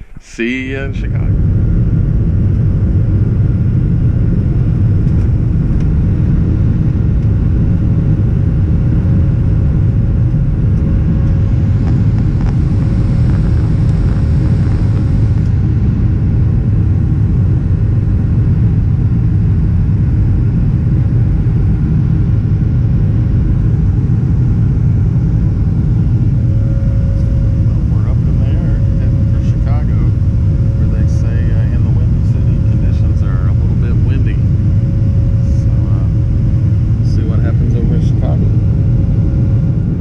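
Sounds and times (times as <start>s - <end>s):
jet engines rumbling in cabin: 0.0s - 40.0s.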